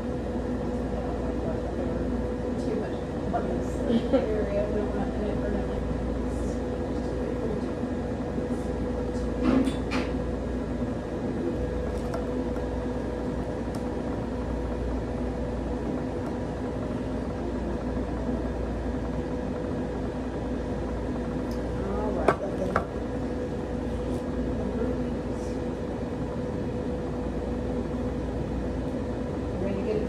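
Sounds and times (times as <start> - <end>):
chiller blowing air through hose: 0.0 - 30.0
equipment hum and air rush: 0.0 - 30.0.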